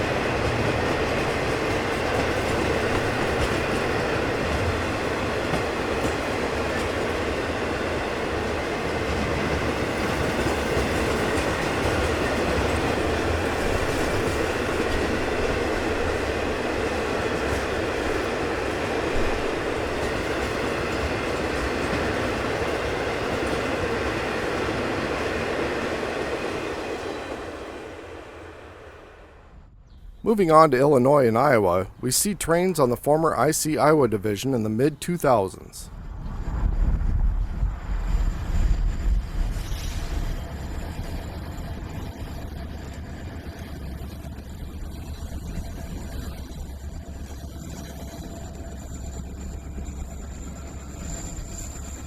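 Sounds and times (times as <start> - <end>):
freight train cars rolling past: 0.0 - 29.6, 30.2 - 52.0.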